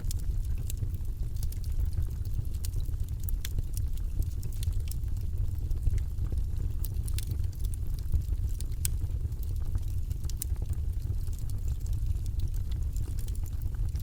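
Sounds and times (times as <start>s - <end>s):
fire crackling and popping: 0.0s - 14.0s
low steady rumble: 0.0s - 14.0s.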